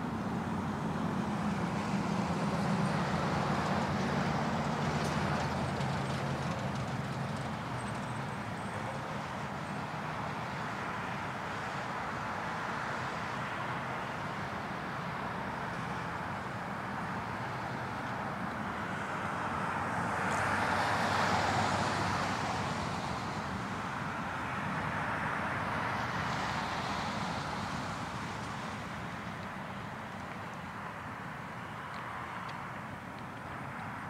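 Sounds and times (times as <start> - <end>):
traffic hiss: 0.0 - 34.0.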